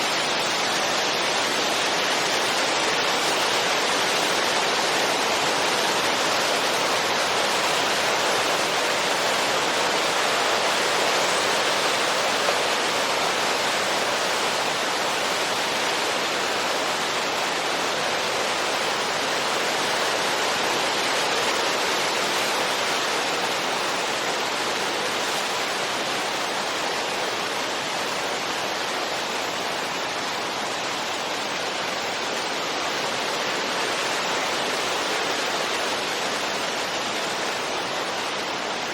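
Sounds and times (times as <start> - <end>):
steady wind hiss: 0.0 - 38.9.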